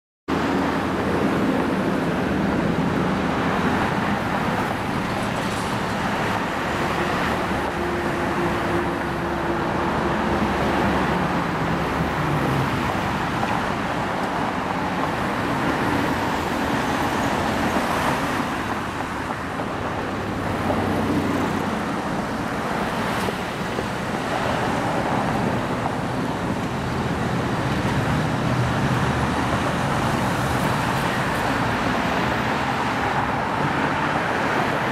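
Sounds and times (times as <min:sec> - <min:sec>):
road traffic engines humming: 0:00.3 - 0:34.9.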